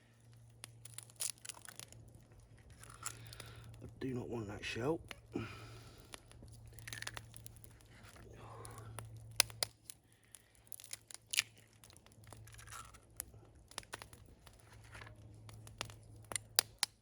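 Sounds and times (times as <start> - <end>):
campfire crackling: 0.0 - 17.0
faint steady hum: 0.0 - 17.0.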